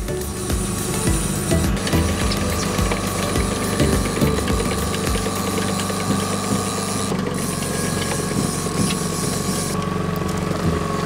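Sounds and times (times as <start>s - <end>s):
outboard motor running: 0.0s - 11.0s
fishing reel clicking: 0.2s - 9.8s.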